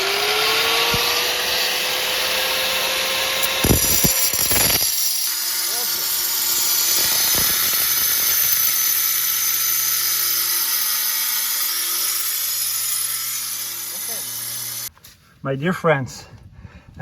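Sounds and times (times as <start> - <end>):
angle grinder cutting steel: 0.0 - 14.9.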